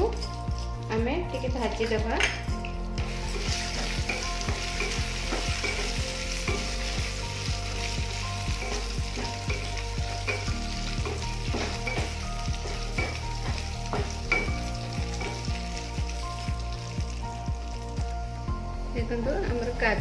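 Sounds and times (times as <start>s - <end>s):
food sizzling in a frying pan: 3.0s - 20.0s.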